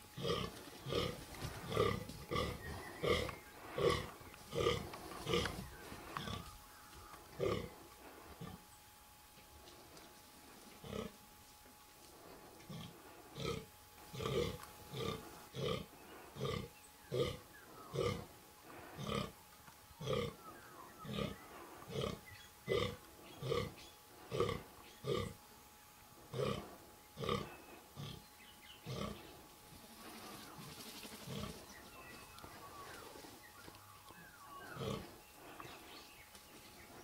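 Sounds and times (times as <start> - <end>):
deer grunting calls: 0.2 - 8.7, 10.5 - 11.2, 12.1 - 19.4, 20.0 - 25.4, 26.2 - 28.2, 28.8 - 33.3, 34.2 - 36.2.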